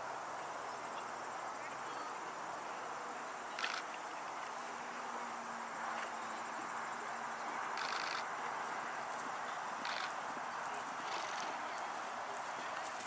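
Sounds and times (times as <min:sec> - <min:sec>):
faint insect-like buzz: 0:00.0 - 0:13.0
outdoor background hiss: 0:00.0 - 0:13.0.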